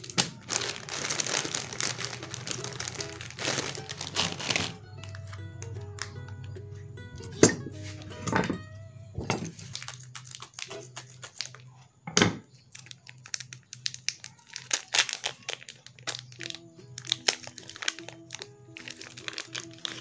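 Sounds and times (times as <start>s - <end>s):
plastic sachets crinkling: 0.0s - 6.6s, 9.2s - 11.9s, 12.5s - 20.0s.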